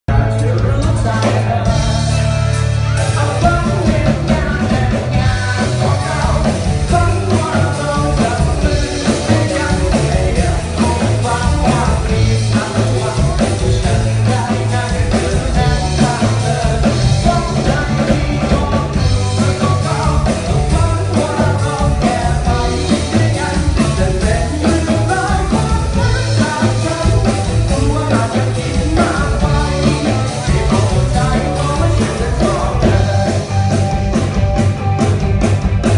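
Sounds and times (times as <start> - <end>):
live rock band playing: 0.1 - 35.9.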